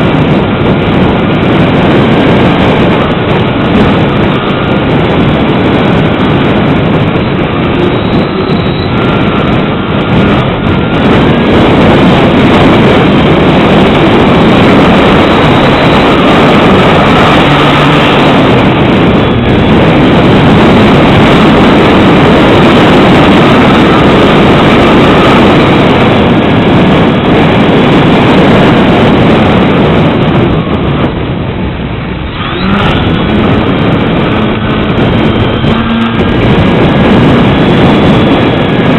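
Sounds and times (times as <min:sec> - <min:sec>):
gusty wind buffeting microphone: 0:00.0 - 0:38.9.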